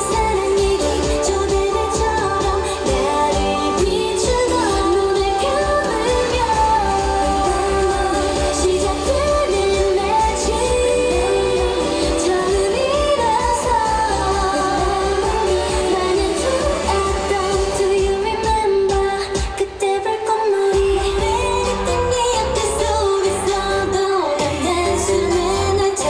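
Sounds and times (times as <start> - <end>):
group of women singing live: 0.0 - 26.0
pop backing track with beat: 0.0 - 26.0.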